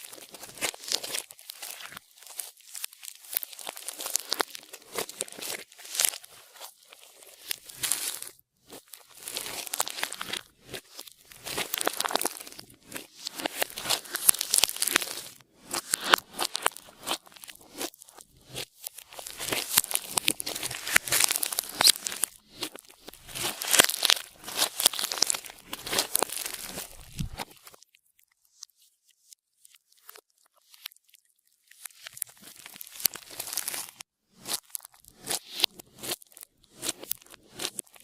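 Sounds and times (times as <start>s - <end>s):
slime crackling and squishing: 0.0s - 27.9s, 29.6s - 38.0s.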